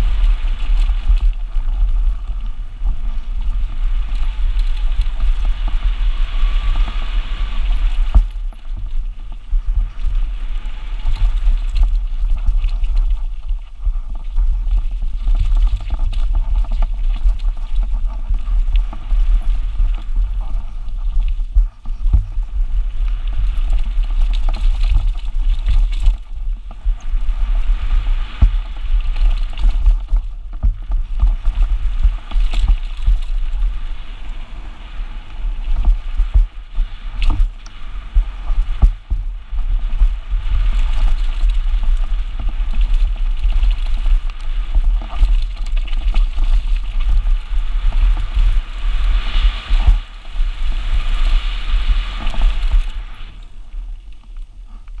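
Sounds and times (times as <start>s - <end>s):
bike rattling over bumps: 0.0s - 55.0s
wind buffeting microphone: 0.0s - 55.0s.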